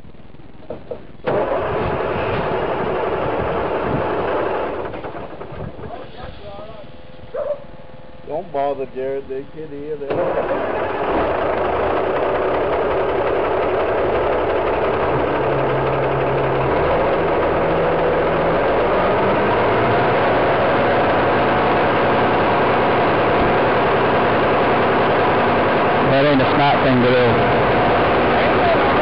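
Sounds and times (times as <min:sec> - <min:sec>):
engine running loud: 0:00.9 - 0:07.1, 0:08.3 - 0:29.0.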